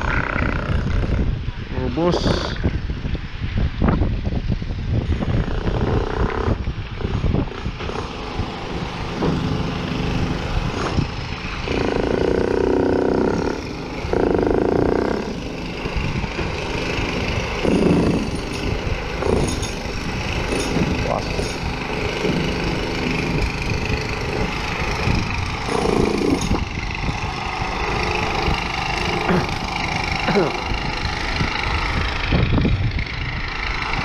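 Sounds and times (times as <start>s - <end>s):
wind buffeting microphone: 0.0s - 34.0s
motor running: 5.0s - 34.0s.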